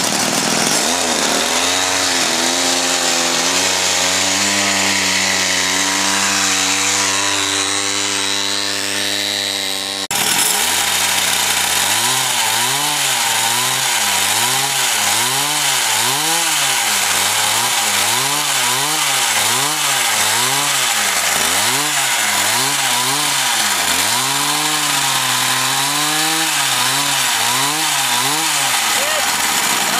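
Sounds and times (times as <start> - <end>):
two-stroke engine revving: 0.0 - 29.9.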